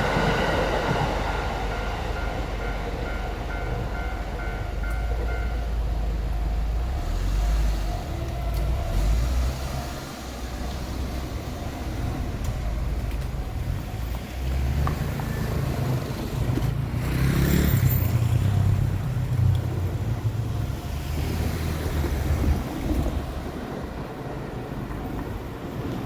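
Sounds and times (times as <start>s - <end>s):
cars passing with low rumble: 3.3s - 26.0s.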